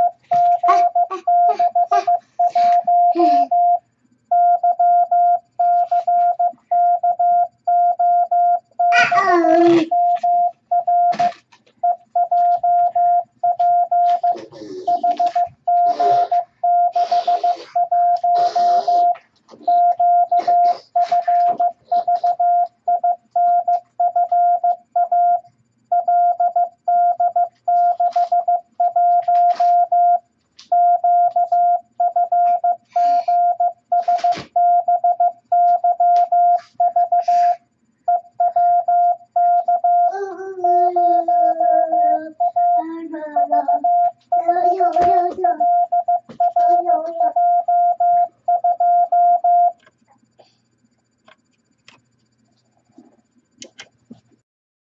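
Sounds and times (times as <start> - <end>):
morse code beeps: 0.0 - 50.6.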